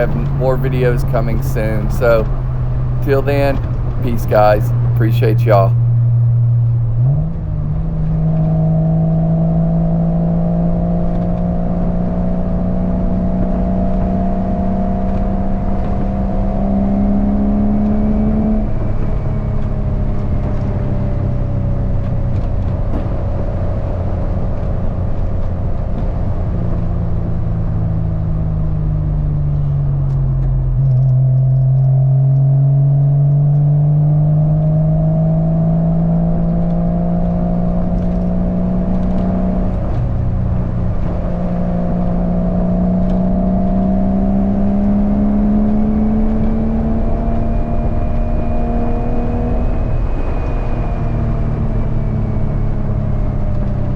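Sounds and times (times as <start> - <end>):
car engine accelerating: 0.0 - 22.7, 23.5 - 53.9
road and wind noise: 0.0 - 53.9.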